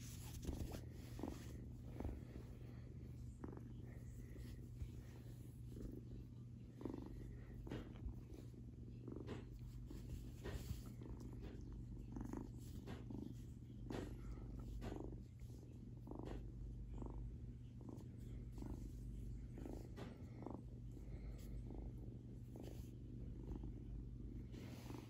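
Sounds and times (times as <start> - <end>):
kitten purring: 0.0 - 25.0.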